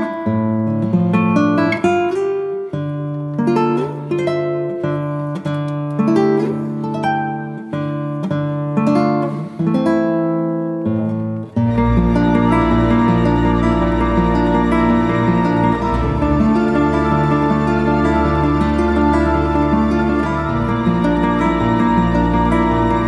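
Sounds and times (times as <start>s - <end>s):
plucked acoustic guitar music: 0.0s - 23.0s.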